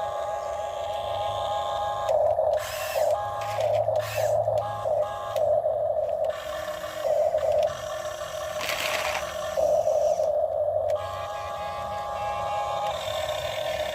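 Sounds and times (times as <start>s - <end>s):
small electric motors whining: 0.0s - 13.9s.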